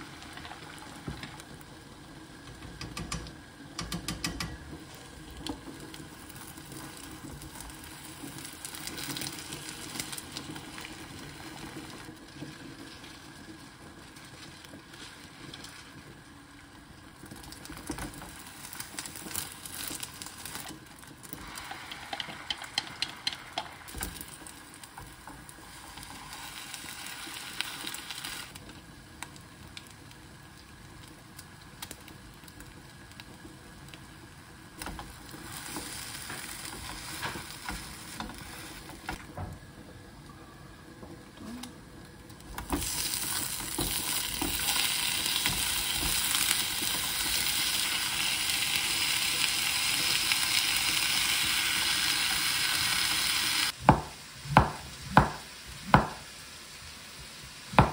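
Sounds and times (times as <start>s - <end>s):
food sizzling in a frying pan: 0.0s - 39.4s, 40.6s - 57.9s.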